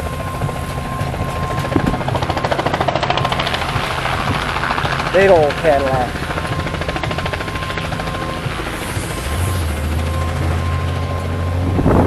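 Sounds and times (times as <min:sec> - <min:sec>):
deep drone: 0:00.0 - 0:12.0
engine running with fast chop: 0:00.0 - 0:12.0.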